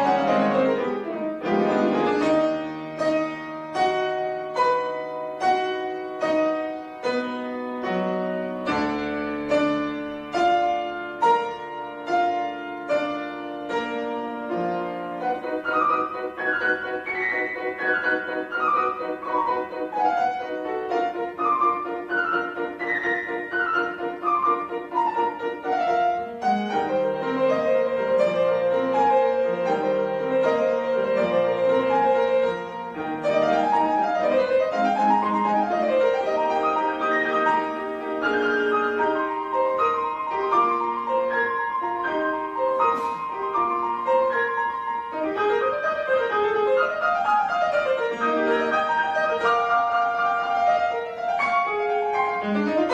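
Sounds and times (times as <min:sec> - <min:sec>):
gentle classical piano music: 0:00.0 - 0:52.9.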